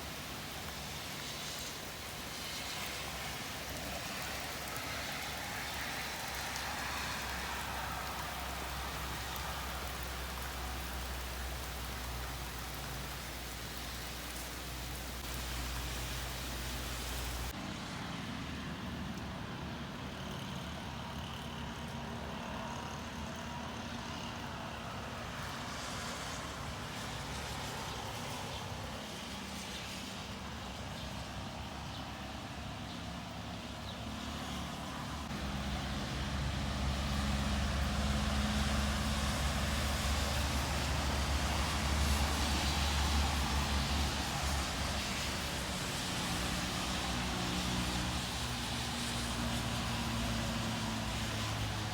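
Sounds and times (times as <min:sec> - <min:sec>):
steady rain: 0:00.0 - 0:19.8, 0:23.0 - 0:51.9.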